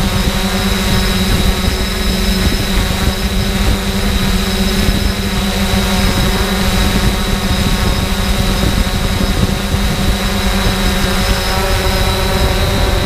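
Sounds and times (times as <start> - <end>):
air buffeting rumble: 0.0 - 13.0
drone propellers whining: 0.0 - 13.0.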